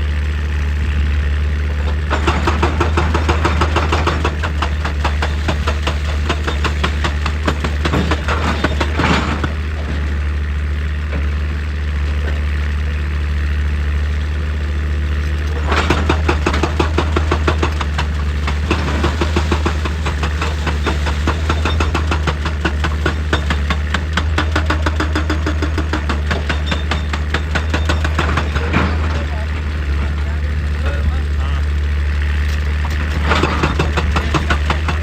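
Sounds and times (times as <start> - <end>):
diesel excavator engine running: 0.0 - 35.0.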